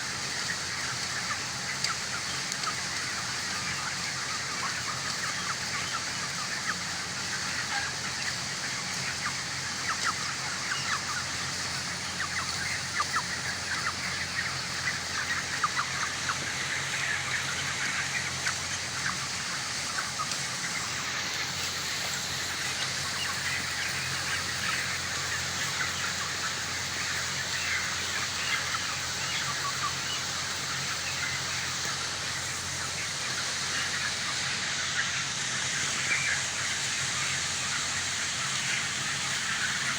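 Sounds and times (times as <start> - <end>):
chickens cheeping and clucking: 0.0 - 39.9.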